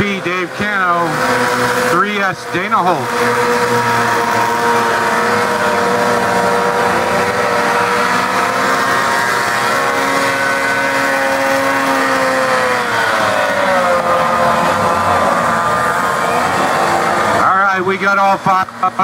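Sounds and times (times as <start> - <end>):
racing outboard motors running: 0.0 - 19.0.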